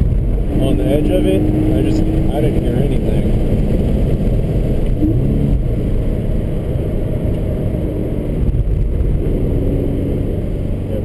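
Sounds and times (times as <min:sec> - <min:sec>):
car engine drone: 0:00.0 - 0:11.0
road and wind rumble: 0:00.0 - 0:11.0.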